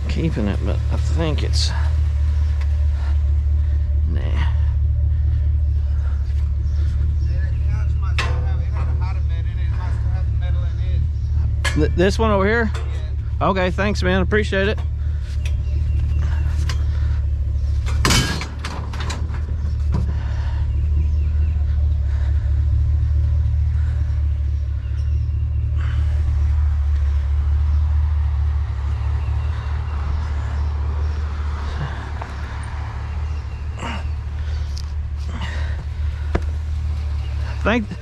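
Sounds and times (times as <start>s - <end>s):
truck engine rumbling: 0.0s - 38.0s.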